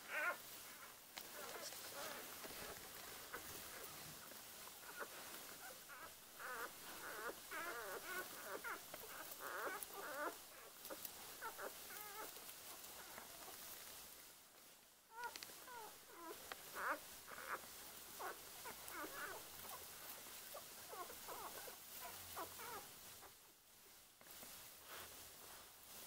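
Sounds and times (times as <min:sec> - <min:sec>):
puppies squeaking and whimpering: 0:00.1 - 0:13.2, 0:15.1 - 0:23.3.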